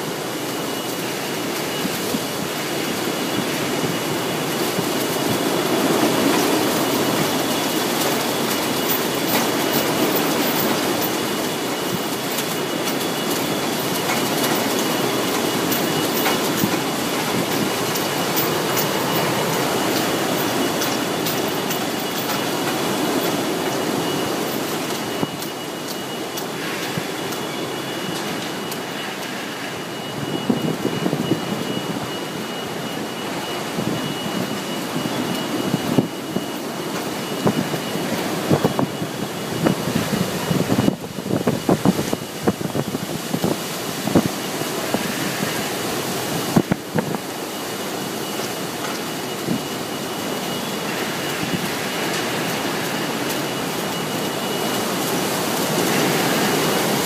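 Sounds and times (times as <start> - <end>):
high wind whistle: 0.0 - 48.3
strong wind against a building: 0.0 - 57.0.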